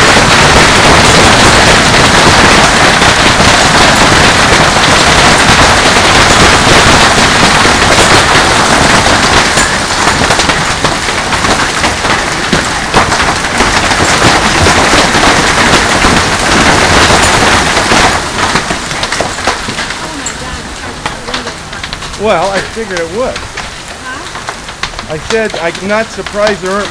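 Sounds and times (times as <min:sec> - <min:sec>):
heavy hail clattering: 0:00.0 - 0:26.9.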